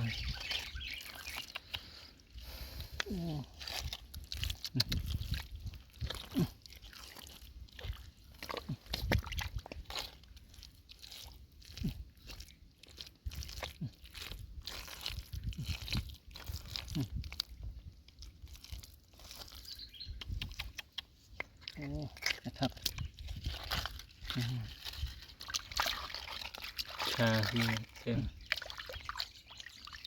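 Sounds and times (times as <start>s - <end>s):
hands digging through wet mud: 0.0s - 30.0s.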